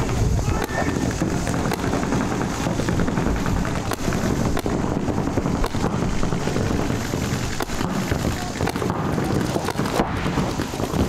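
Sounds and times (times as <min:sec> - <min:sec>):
paintball markers firing: 0:00.0 - 0:11.0
wind buffeting microphone: 0:00.0 - 0:11.0.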